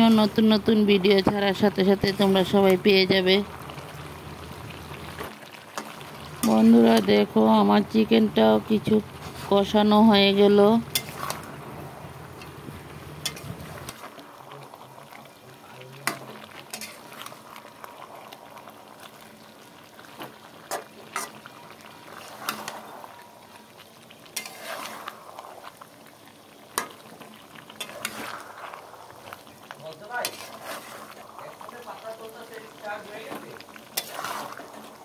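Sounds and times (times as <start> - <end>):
curry bubbling in a pot: 0.0 - 35.0.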